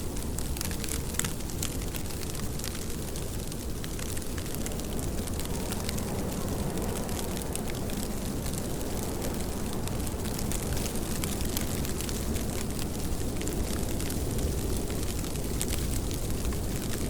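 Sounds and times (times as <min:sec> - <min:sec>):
heavy rain with drop impacts: 0:00.1 - 0:17.0.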